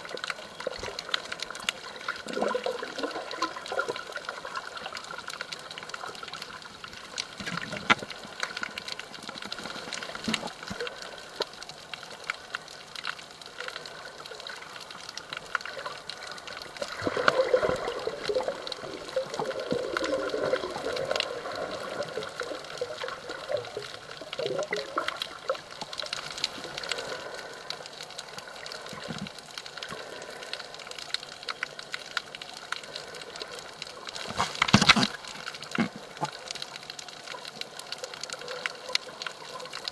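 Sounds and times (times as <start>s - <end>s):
wavering gurgle: 0.0s - 11.9s, 13.4s - 39.9s
crackle of small clicks: 0.0s - 39.9s
underwater water movement: 0.0s - 39.9s.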